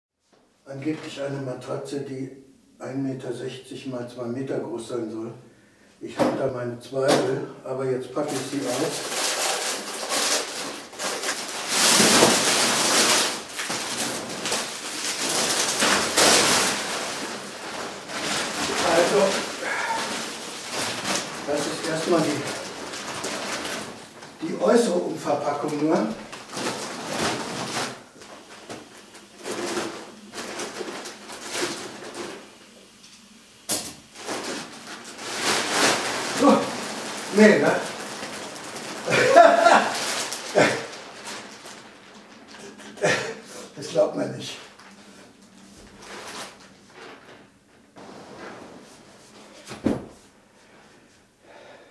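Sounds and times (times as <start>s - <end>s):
plastic film crinkling and rustling: 7.0s - 50.5s.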